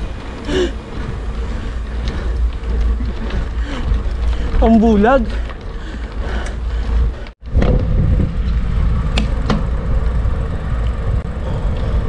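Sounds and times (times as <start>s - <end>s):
wind and road noise from bicycle: 0.0s - 12.0s.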